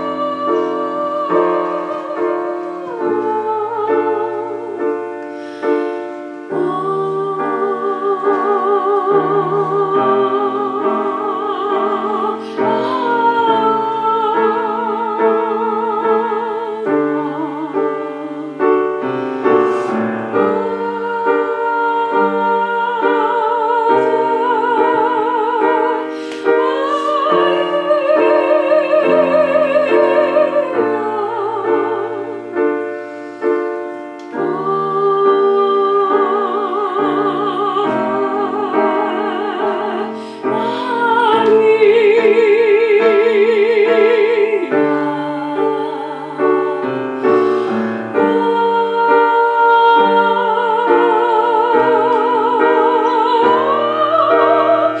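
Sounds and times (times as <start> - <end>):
piano chords: 0.0 - 55.0.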